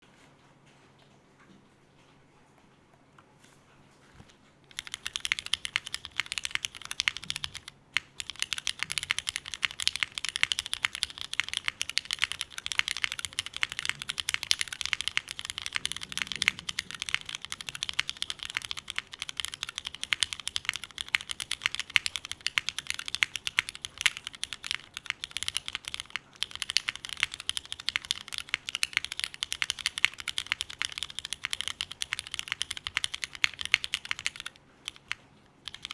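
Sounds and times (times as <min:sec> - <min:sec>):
typing on mechanical keyboard: 0:04.7 - 0:35.9.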